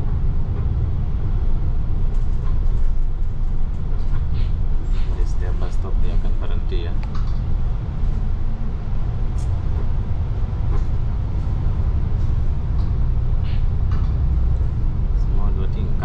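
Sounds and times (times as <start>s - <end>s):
bus engine and tyres rumbling: 0.0s - 16.0s.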